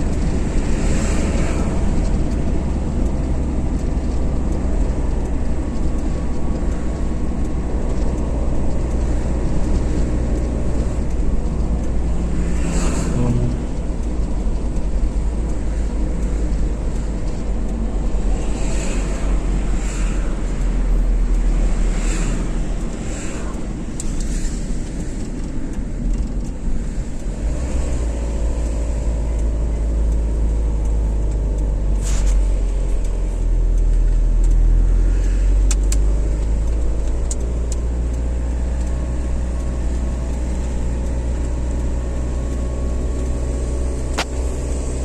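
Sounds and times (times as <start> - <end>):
car engine and road noise: 0.0 - 45.0
faint clicks: 0.0 - 45.0.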